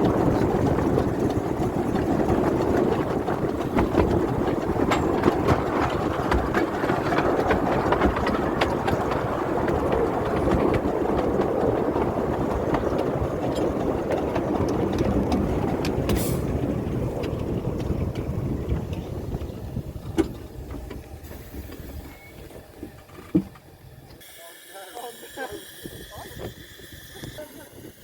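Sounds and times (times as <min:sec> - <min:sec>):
small locomotive running: 0:00.0 - 0:28.0.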